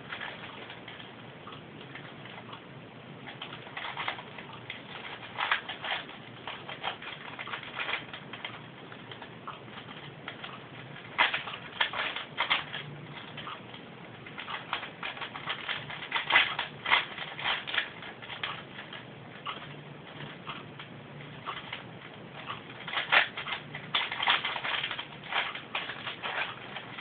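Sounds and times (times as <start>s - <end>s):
puzzle cube clicking as turned: 3.3s - 20.9s, 21.5s - 21.8s, 22.4s - 27.0s.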